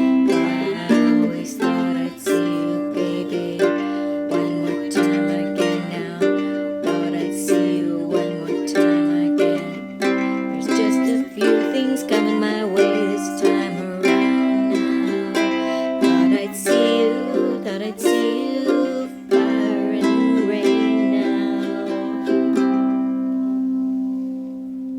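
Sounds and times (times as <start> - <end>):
ukulele playing: 0.0 - 24.9.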